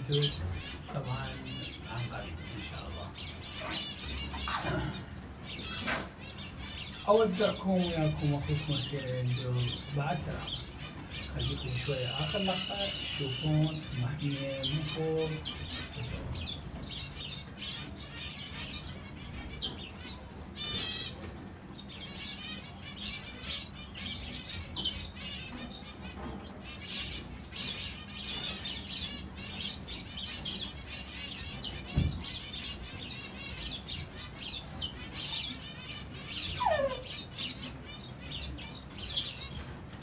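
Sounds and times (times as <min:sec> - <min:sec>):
finches chirping: 0:00.0 - 0:40.0.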